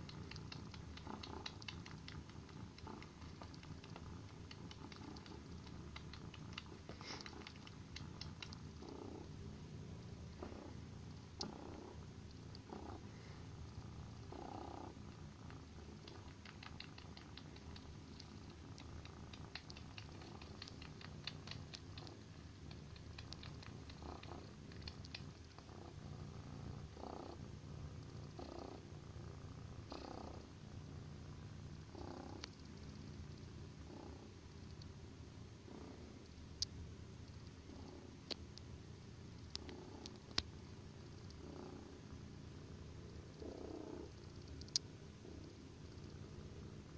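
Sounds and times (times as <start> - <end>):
kitten purring: 0.0 - 46.9.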